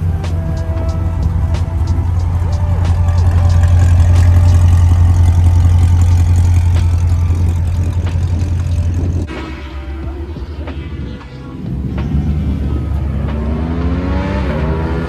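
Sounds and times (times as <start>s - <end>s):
car engine deep exhaust drone: 0.0s - 15.0s.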